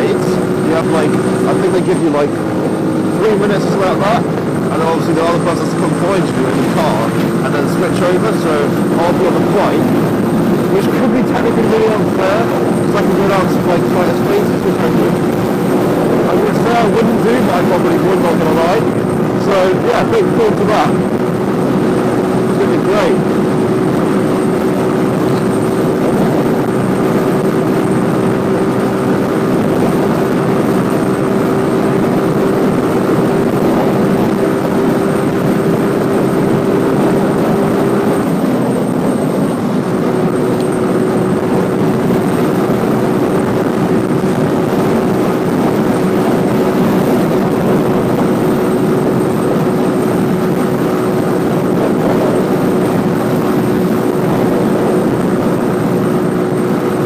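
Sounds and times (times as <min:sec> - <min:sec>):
motorcycle engine running: 0:00.0 - 0:57.0
steady rushing noise: 0:00.0 - 0:57.0.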